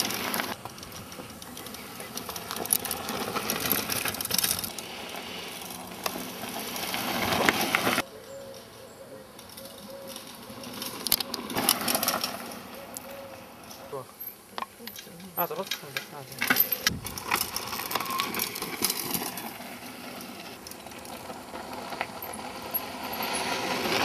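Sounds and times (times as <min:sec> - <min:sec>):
bike clicks and rattles: 0:00.0 - 0:24.0
bike tyres on gravel: 0:00.0 - 0:24.0.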